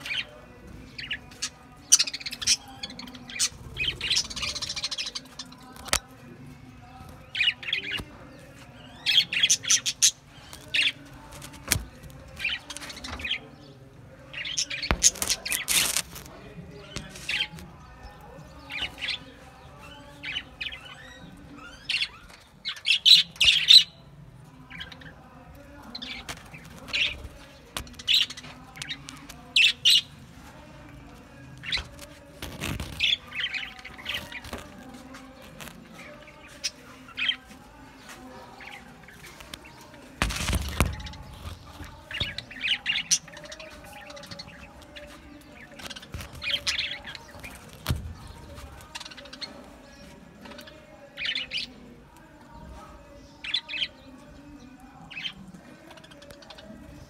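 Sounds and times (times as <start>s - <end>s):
budgerigars chirping and chattering: 0.0s - 57.0s.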